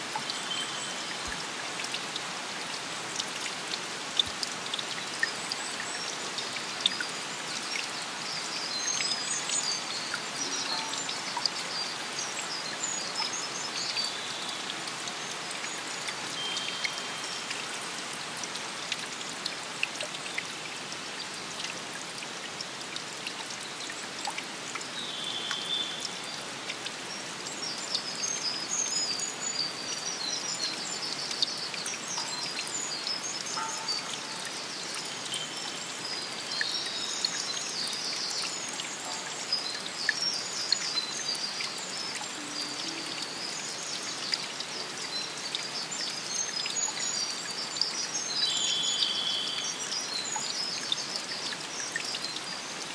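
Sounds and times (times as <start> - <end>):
rain pattering in forest: 0.0 - 52.9.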